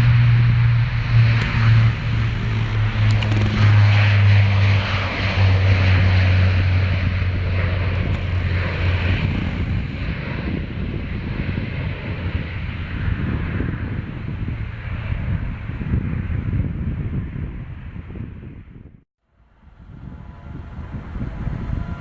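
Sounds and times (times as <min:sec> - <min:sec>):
military aircraft engines humming: 0:00.0 - 0:16.5, 0:19.5 - 0:22.0
rumble: 0:00.0 - 0:18.8.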